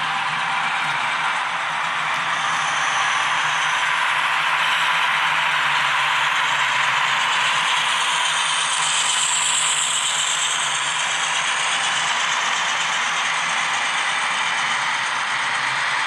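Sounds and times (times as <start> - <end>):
model train wheels rattling on track: 0.0 - 16.0.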